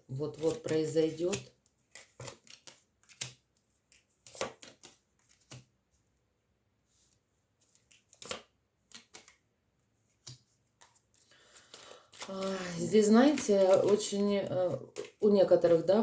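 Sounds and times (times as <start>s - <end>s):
cards slapping and rustling: 0.3s - 5.8s, 7.0s - 15.2s.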